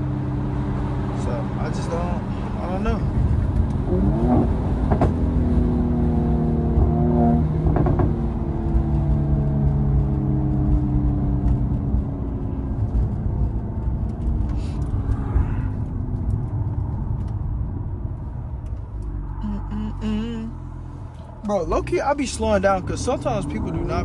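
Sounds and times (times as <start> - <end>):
car engine and exhaust: 0.0 - 24.0
steady low rumble: 1.2 - 24.0.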